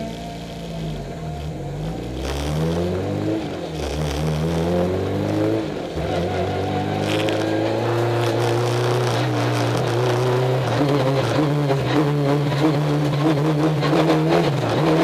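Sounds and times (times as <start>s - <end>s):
car engine accelerating: 0.0s - 15.0s
gear shifts: 0.0s - 15.0s.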